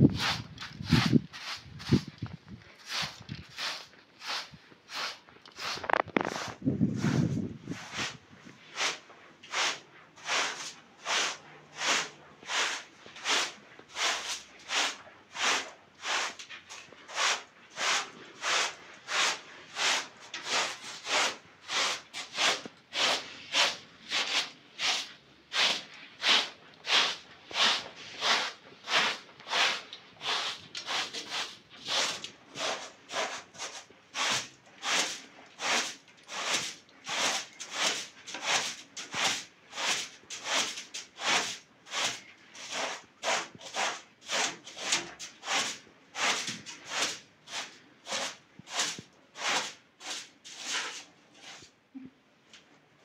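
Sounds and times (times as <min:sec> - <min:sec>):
broom sweeping carpet: 0:00.0 - 0:51.8.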